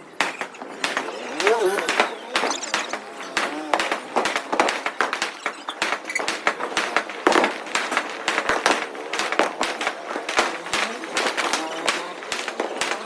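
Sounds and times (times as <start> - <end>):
firecracker string banging: 0.0 - 13.0.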